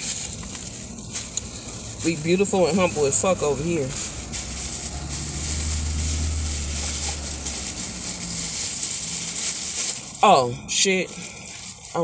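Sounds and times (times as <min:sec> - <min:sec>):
food packaging handled: 0:00.0 - 0:10.4, 0:11.0 - 0:12.0
low vehicle rumble: 0:00.0 - 0:12.0.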